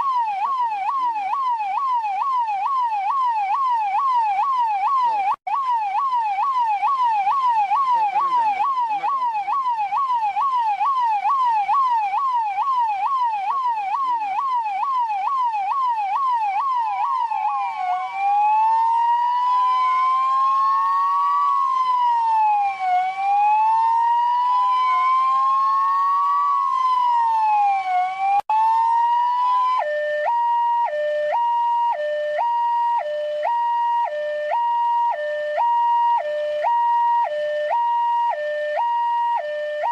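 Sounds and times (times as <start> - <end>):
police car electronic siren: 0.0 - 39.9.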